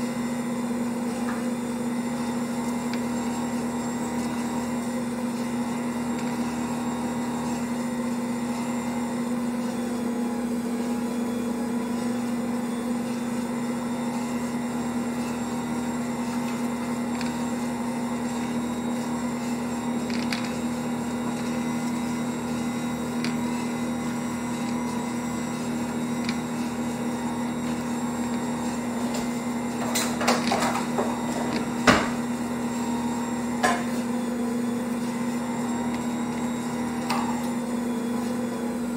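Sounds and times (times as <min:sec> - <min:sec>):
stand mixer motor hum: 0:00.0 - 0:38.9.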